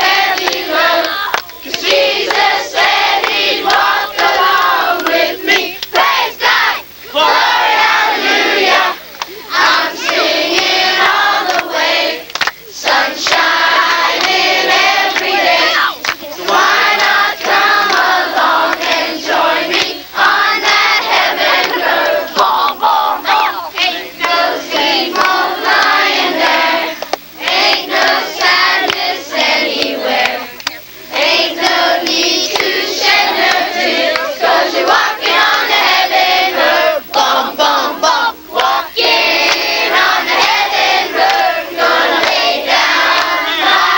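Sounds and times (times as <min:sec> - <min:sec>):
children and women singing: 0:00.0 - 0:43.9.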